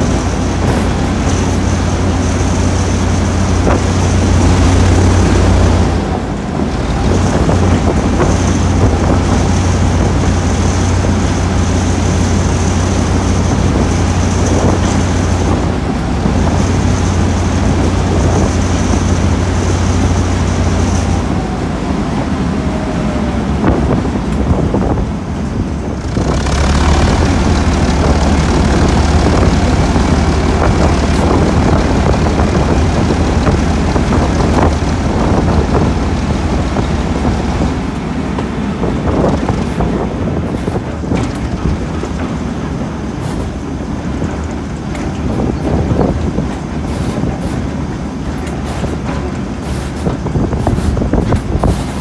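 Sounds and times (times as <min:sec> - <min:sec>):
diesel engine low rumble: 0:00.0 - 0:52.0.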